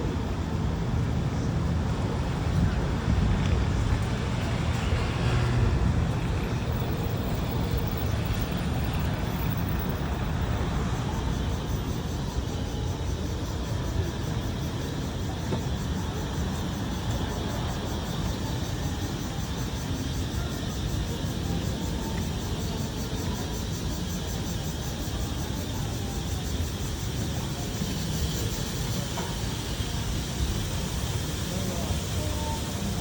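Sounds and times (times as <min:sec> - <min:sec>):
cicada drone: 0:00.0 - 0:33.0
city traffic rumble: 0:00.0 - 0:33.0.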